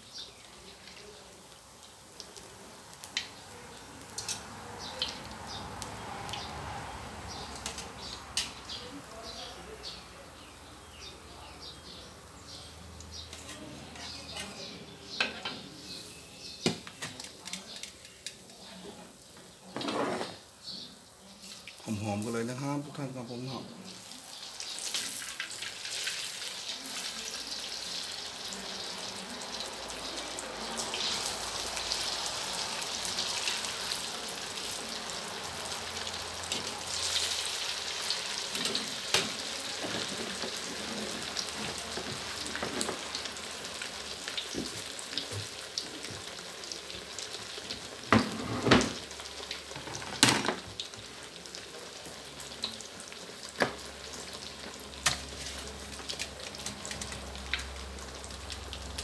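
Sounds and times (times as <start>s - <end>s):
bread deep-frying in oil: 0.0s - 59.0s.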